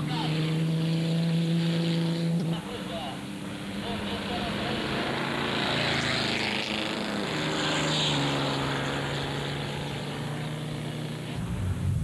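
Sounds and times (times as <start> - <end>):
racing car engines at speed: 0.0 - 12.0.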